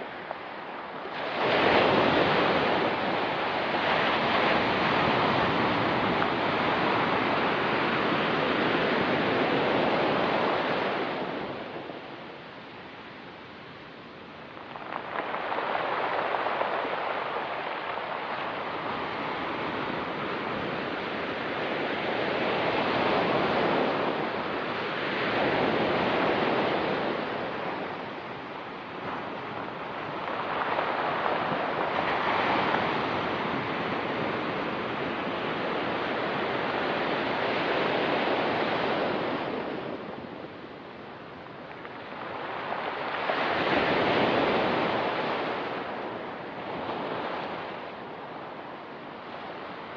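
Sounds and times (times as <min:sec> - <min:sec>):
surf washing over pebble beach: 0:00.0 - 0:49.9.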